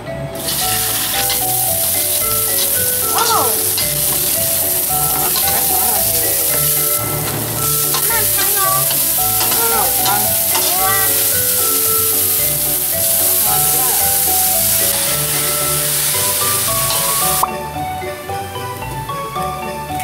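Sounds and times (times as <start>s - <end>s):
background music: 0.0s - 20.0s
food sizzling in wok: 0.4s - 18.8s.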